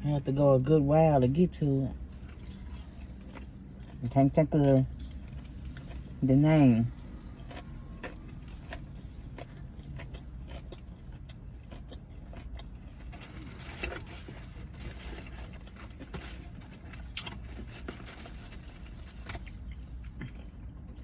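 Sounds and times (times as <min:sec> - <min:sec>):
low steady hum: 0:00.0 - 0:21.0
person chewing crunchy food: 0:01.9 - 0:21.0.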